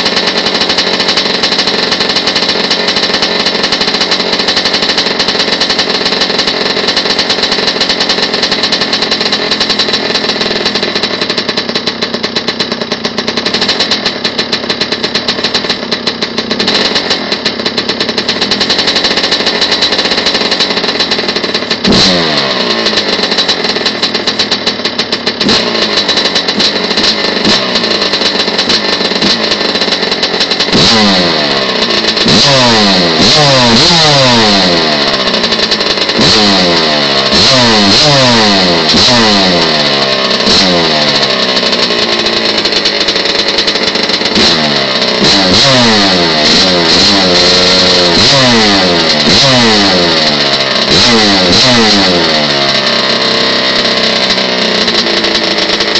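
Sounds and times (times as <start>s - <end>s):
dirt bike engine idling unevenly: 0.0s - 55.9s
dirt bike engine revving: 0.0s - 55.9s.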